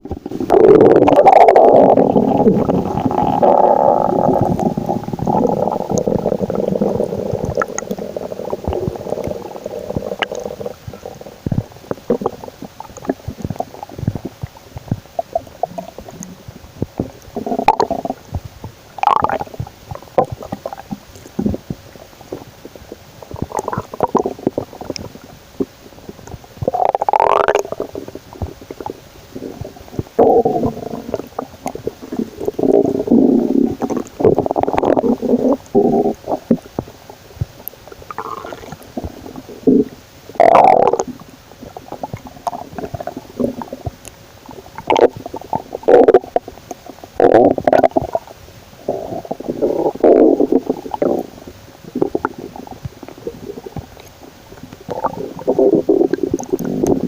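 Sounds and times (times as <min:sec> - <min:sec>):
stomach growling and gurgling: 0:00.0 - 0:57.0.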